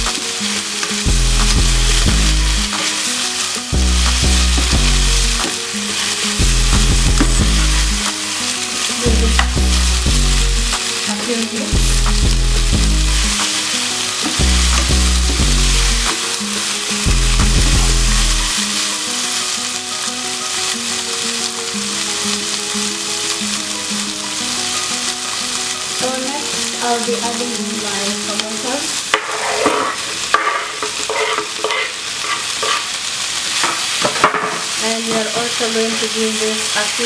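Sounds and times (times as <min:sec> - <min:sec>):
stir-fry sizzling in a pan: 0:00.0 - 0:37.0.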